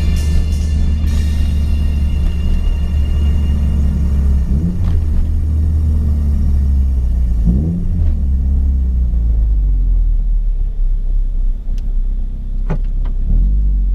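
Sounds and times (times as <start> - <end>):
car engine drone while driving: 0.0 - 13.9.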